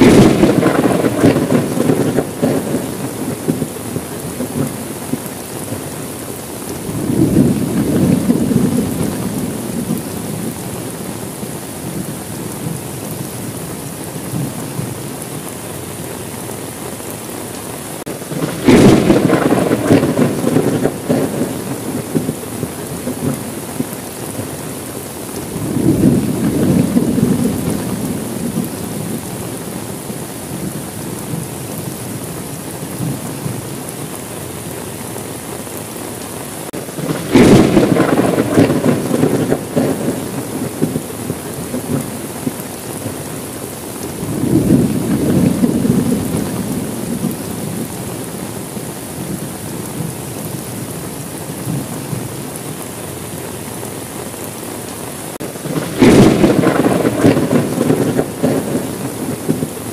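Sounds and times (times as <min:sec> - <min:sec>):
thunder cracking and rumbling: 0:00.0 - 0:15.5, 0:18.0 - 0:34.2, 0:36.7 - 0:52.5, 0:55.3 - 0:59.9
steady rain: 0:00.0 - 0:59.9.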